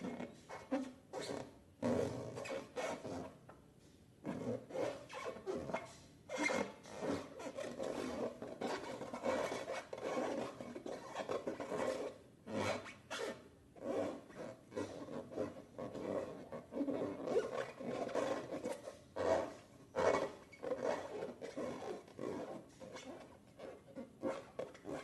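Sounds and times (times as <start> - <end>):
rubber balloons rubbed and squeezed: 0.0 - 3.4, 4.2 - 25.0.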